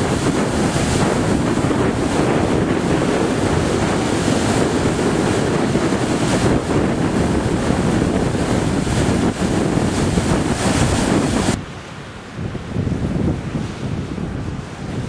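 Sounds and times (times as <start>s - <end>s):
surf breaking on rocky shore: 0.0s - 15.0s
wind buffeting microphone: 0.0s - 15.0s.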